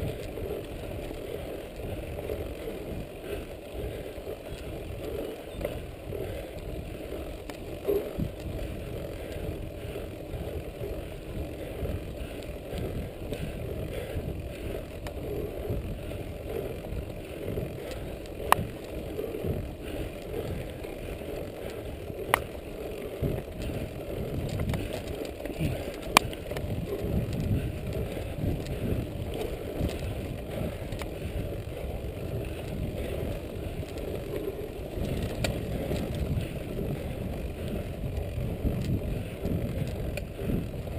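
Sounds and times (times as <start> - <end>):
bike rattling: 0.0 - 40.9
bike tyres rumbling on dirt: 0.0 - 40.9.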